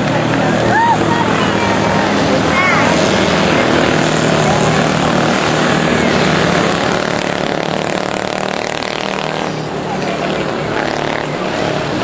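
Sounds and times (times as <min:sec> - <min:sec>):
racing kart engines buzzing: 0:00.0 - 0:12.0.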